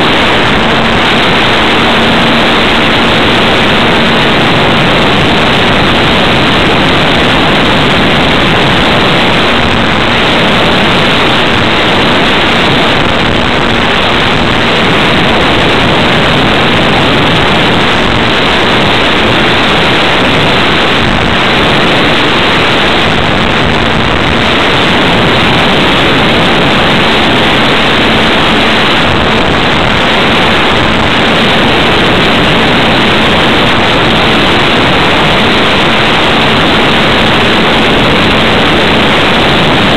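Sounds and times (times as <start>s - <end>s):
airflow and propeller noise: 0.0s - 39.9s.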